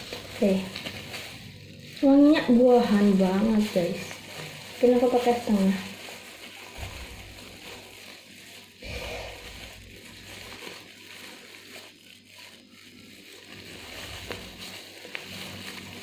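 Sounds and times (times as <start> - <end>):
plastic sachet crinkling: 0.0 - 16.0.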